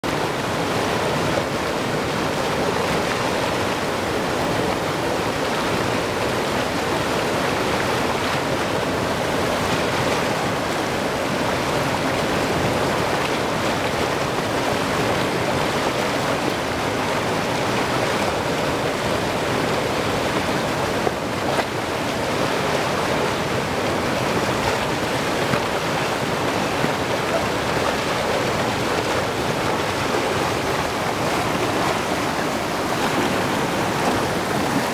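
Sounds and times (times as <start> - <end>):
river rapids roaring: 0.0 - 34.9.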